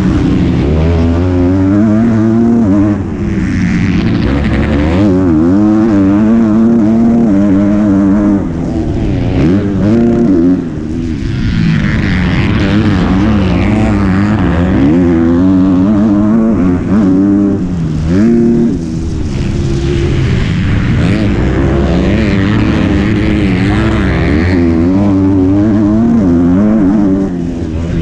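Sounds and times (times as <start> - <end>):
motocross bike engine revving: 0.0 - 28.0
wind noise: 0.0 - 28.0.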